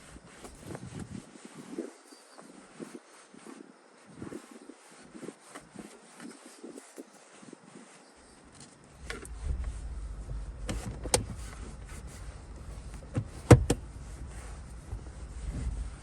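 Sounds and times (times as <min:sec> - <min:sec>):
cloth rubbing leather seat: 0:00.0 - 0:16.0.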